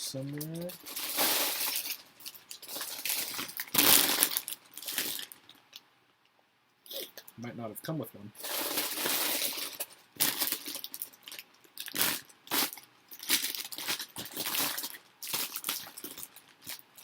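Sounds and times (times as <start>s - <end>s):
plastic bags crinkling: 0.1s - 5.8s, 8.4s - 17.0s.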